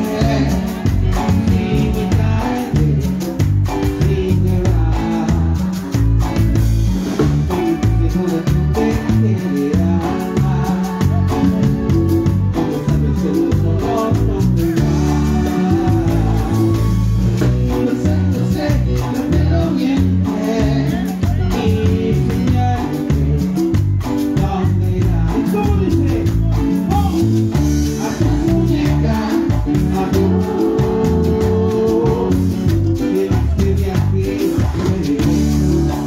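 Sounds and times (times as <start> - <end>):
live cumbia band music: 0.0 - 36.0.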